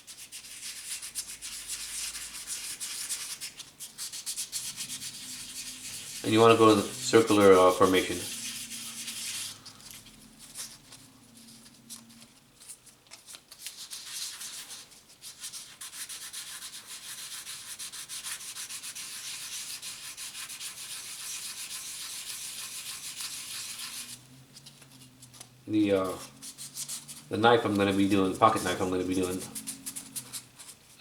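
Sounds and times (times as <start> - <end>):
wet sandpaper rubbing on metal: 0.1 - 11.6, 13.8 - 24.3, 25.3 - 30.8.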